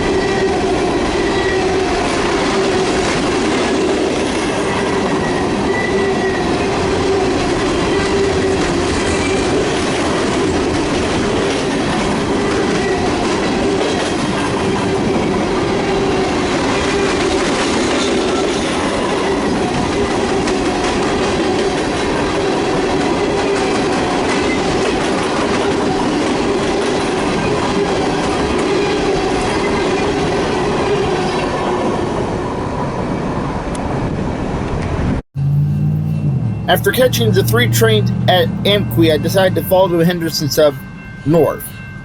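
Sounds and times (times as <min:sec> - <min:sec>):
railroad cars rumbling and clattering: 0:00.0 - 0:42.0.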